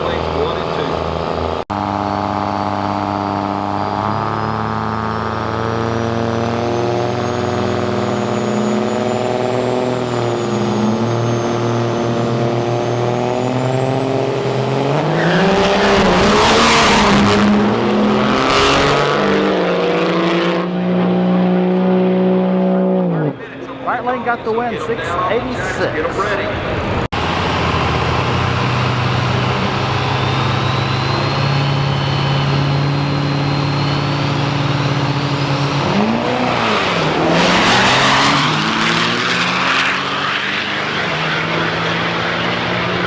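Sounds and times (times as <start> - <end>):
diesel trucks revving and launching: 0.0 - 43.0.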